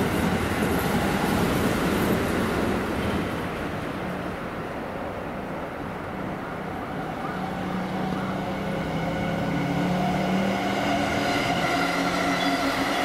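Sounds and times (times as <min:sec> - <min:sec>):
electric locomotive hum: 0:00.0 - 0:13.0.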